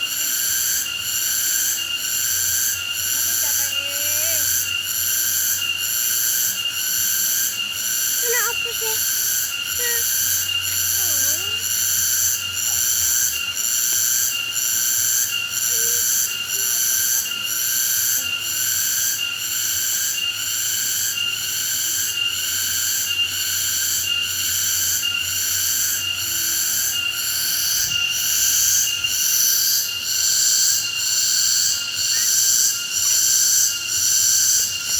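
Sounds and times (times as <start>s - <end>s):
insect buzzing shrilly: 0.1s - 34.9s.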